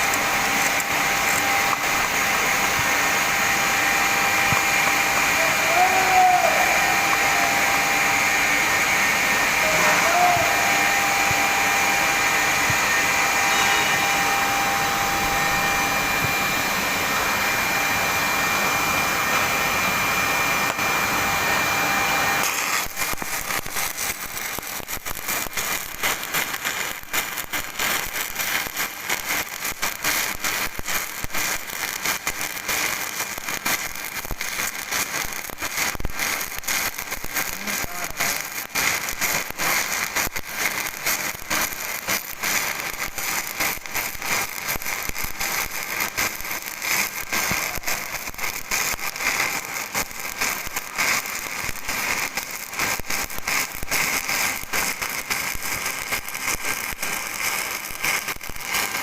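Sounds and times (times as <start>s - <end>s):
stick welding crackle: 0.0s - 59.0s
welding arc hissing: 0.0s - 59.0s.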